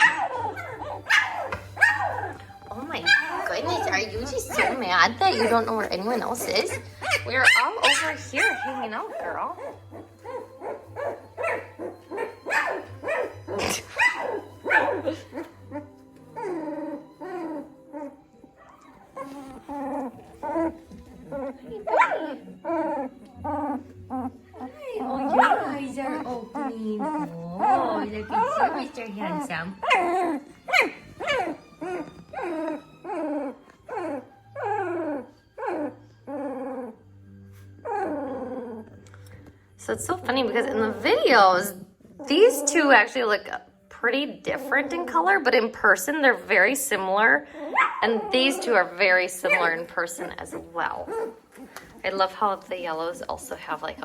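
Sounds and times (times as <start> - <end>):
puppy crying and whining: 0.0 - 39.0, 47.5 - 52.6.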